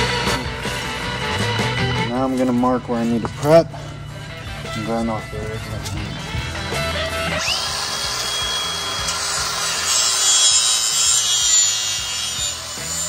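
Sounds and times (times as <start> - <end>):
angle grinder whining: 0.0 - 13.0
grinder grinding steel: 0.0 - 13.0.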